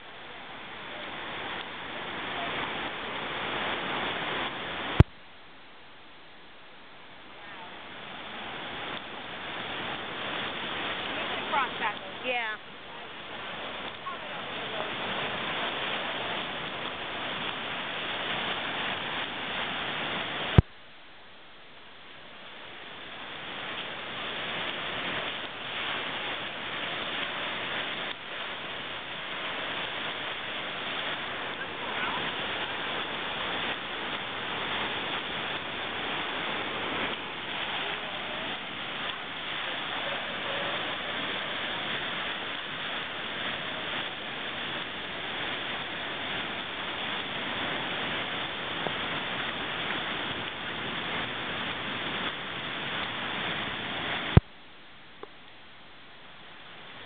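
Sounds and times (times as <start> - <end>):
rushing floodwater: 0.0 - 57.0.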